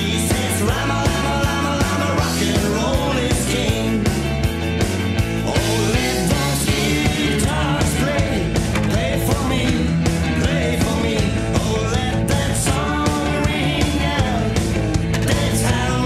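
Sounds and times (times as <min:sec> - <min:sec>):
rock song with singing: 0:00.0 - 0:16.0.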